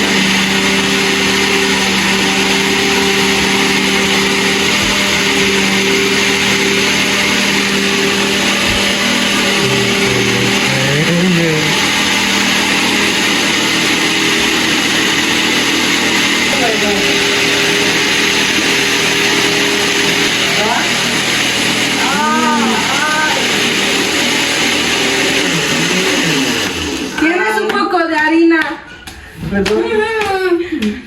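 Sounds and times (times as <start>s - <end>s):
blender motor running: 0.0s - 28.2s.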